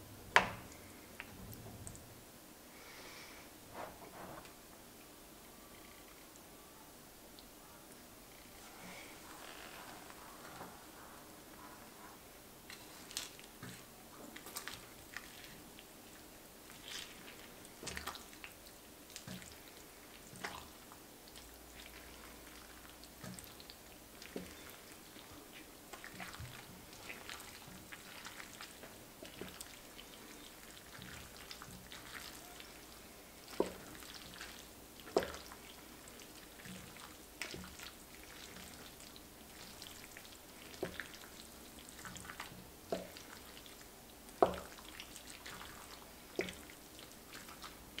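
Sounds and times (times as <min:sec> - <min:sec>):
spatula stirring wet pasta: 0:08.6 - 0:48.0.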